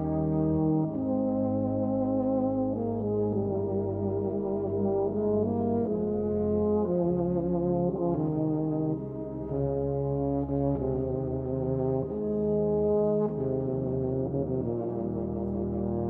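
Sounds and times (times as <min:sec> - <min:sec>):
brass instruments playing chords: 0:00.0 - 0:16.0.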